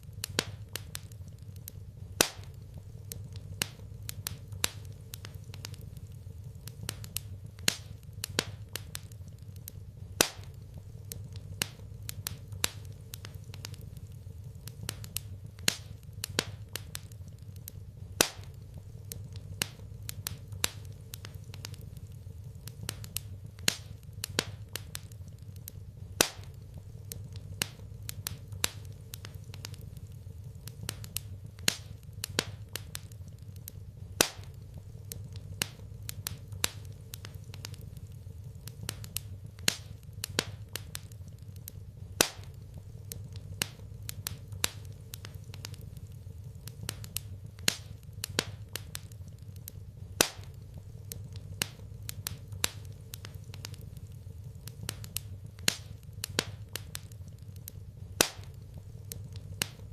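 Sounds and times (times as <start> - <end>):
low fire rumble: 0.0 - 59.9
wood fire crackling: 0.0 - 59.9.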